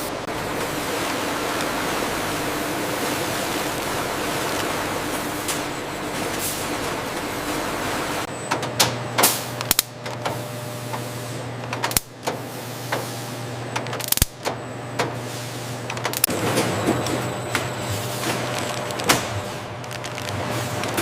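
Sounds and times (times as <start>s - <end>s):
machinery humming: 0.0s - 21.0s.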